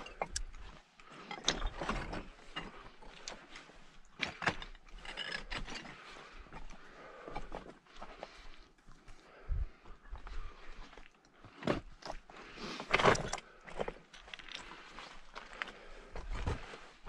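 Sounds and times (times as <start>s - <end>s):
rocks clinking and scraping: 0.0s - 8.9s, 10.4s - 17.0s.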